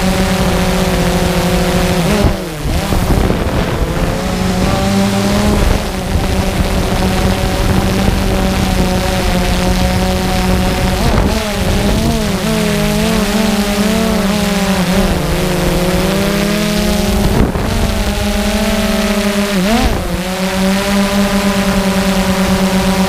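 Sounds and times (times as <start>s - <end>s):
drone motors buzzing: 0.0s - 23.0s.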